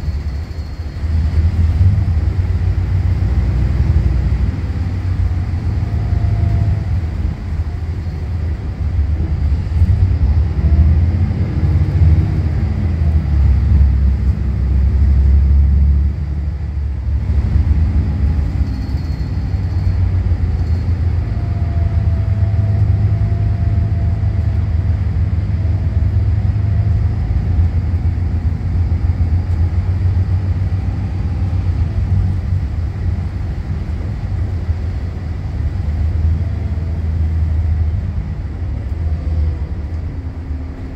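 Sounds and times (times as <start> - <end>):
bus engine rumbling: 0.0 - 40.9.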